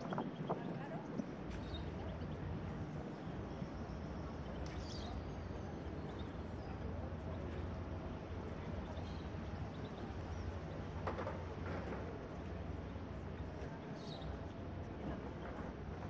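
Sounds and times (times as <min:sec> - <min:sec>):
faint distant voices: 0:00.0 - 0:16.0.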